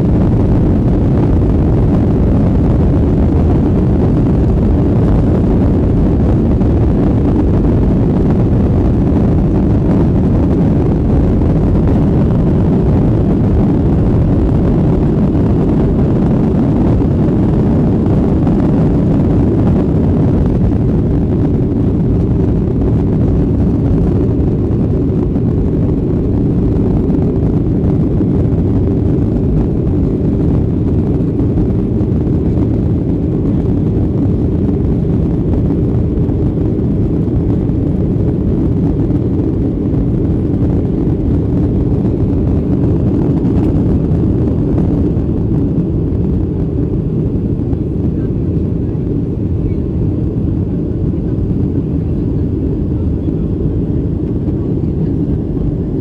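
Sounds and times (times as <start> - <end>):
jet engines low rumble: 0.0 - 56.0.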